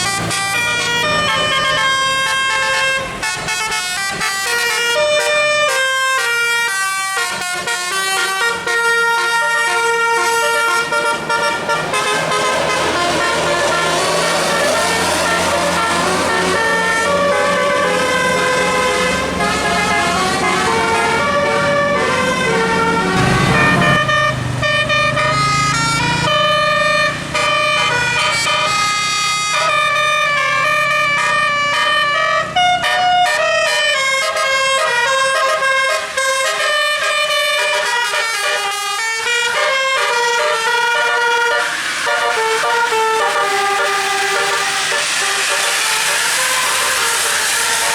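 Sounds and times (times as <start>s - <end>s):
musical air horn melody: 0.0s - 47.9s.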